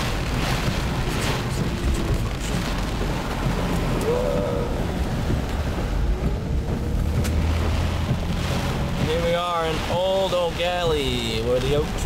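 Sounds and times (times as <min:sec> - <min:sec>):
low rumble inside car cabin: 0:00.0 - 0:12.0
rain and wind on a car: 0:00.0 - 0:12.0
tyres on a flooded road: 0:00.0 - 0:12.0.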